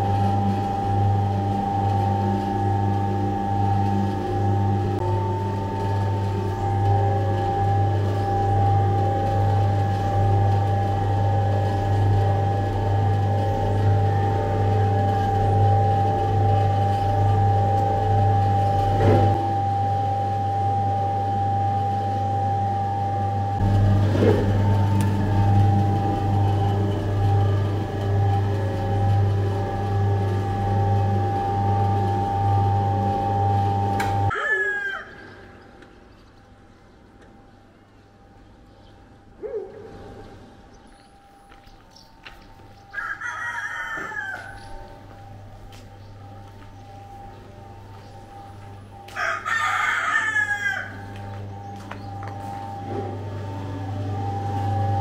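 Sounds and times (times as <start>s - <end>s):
dough mixer motor humming: 0.0s - 34.4s, 44.4s - 55.0s.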